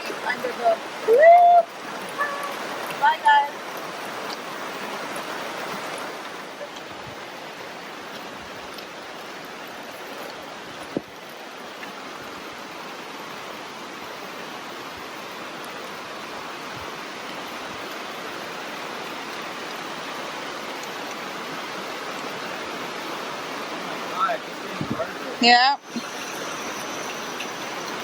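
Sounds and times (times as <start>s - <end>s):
heavy rain on leaves: 0.0s - 28.0s.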